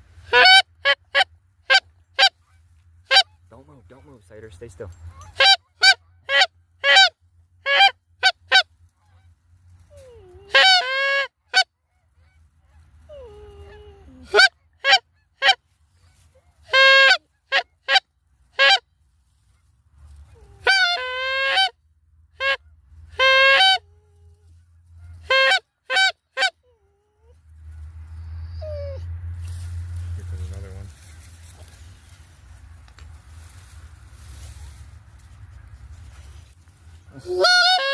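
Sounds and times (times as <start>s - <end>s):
geese honking and clucking: 0.2s - 19.6s, 20.3s - 21.7s, 22.4s - 24.0s, 24.7s - 26.6s, 28.0s - 37.9s.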